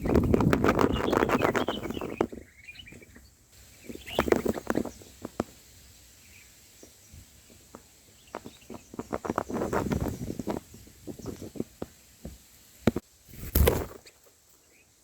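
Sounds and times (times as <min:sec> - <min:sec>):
faint bird chirps: 0:00.0 - 0:12.2, 0:13.8 - 0:15.0
rustling and scraping at nest: 0:00.0 - 0:14.9.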